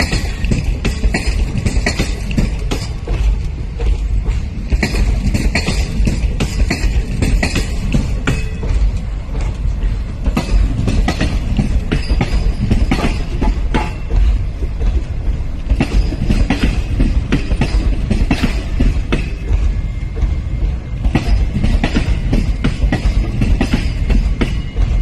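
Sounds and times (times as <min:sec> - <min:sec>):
train rumbling past: 0:00.0 - 0:25.0
wheels clattering over rail joints: 0:00.0 - 0:25.0.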